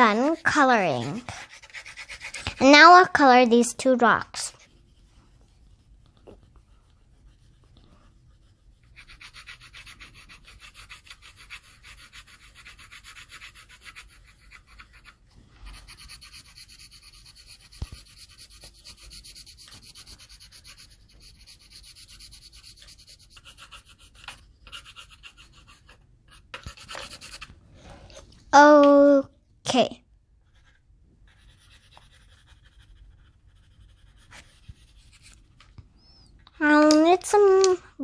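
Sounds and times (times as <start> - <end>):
colouring strokes on paper: 0.0 - 28.2, 30.4 - 35.6.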